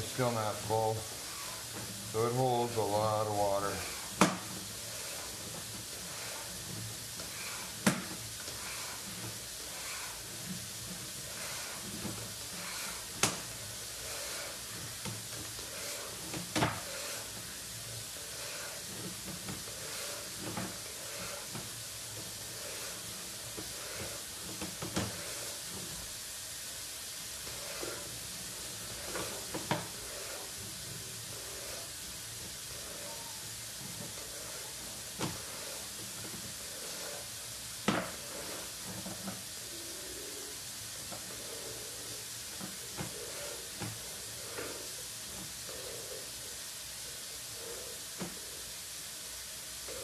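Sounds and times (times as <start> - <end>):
cable pulled with steady hiss: 0.0 - 50.0.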